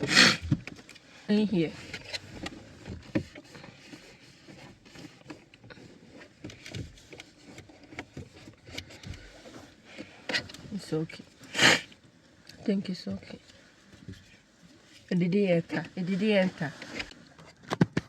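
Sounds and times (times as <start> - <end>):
people rustling in a car: 0.0 - 18.0.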